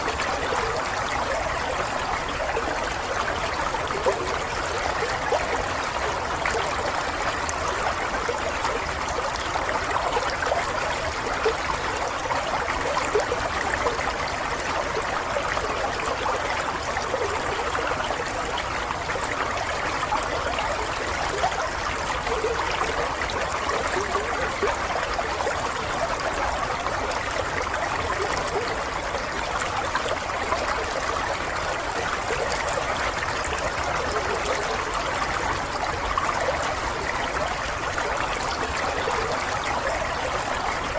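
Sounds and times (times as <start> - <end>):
small stream trickling: 0.0 - 40.9.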